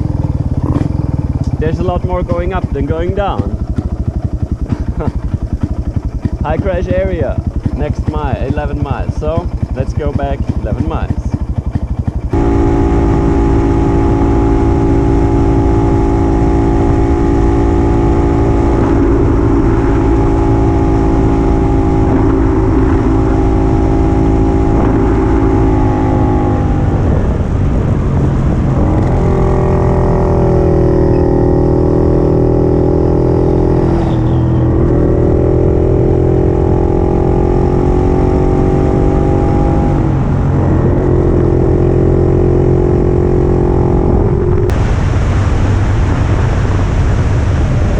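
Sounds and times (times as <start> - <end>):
two-stroke motorcycle engine running: 0.0 - 46.3.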